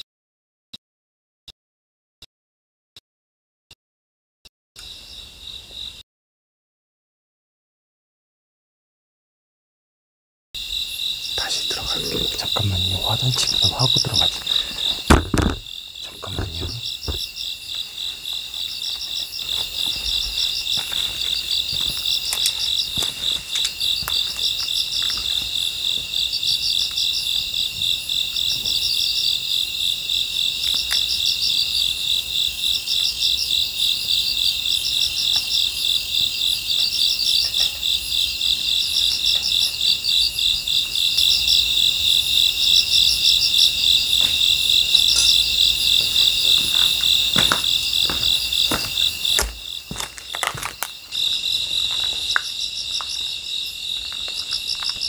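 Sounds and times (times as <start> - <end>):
cricket chirping phrase: 4.8 - 6.0, 10.6 - 55.0
crickets trilling: 10.6 - 55.0.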